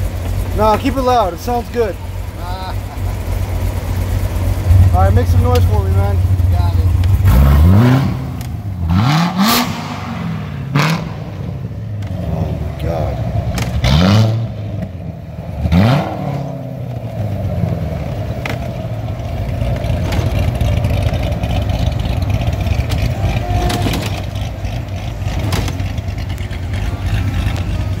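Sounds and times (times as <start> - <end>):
car engine revving: 0.0 - 28.0
car engine running at low revs: 0.0 - 28.0.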